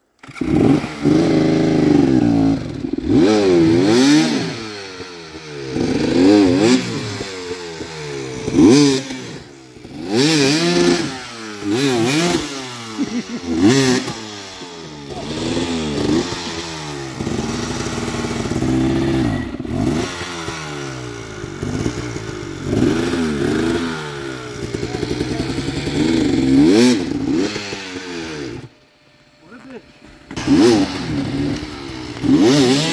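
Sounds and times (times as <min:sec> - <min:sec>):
dirt bike engines revving: 0:00.2 - 0:28.8, 0:29.4 - 0:32.9.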